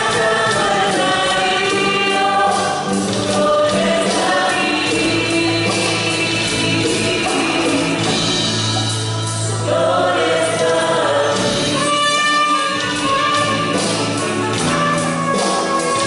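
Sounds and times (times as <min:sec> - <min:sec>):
congregation singing a hymn: 0:00.0 - 0:16.0
instrumental accompaniment: 0:00.0 - 0:16.0.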